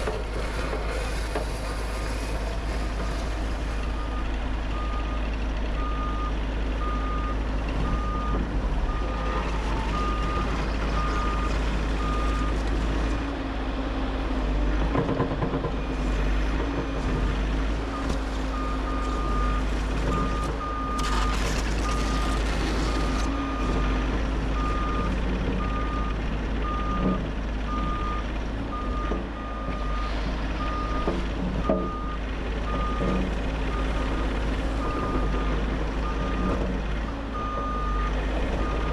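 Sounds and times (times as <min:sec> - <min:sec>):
excavator engine under load: 0:00.0 - 0:38.9.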